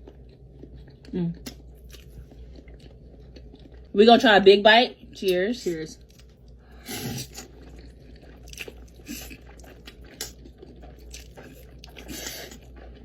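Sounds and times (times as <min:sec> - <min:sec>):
chewing noodles: 0:00.0 - 0:04.0, 0:06.0 - 0:13.0.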